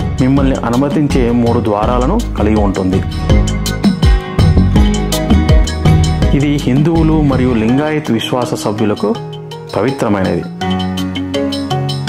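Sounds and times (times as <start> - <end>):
held chords: 0.0 - 12.0.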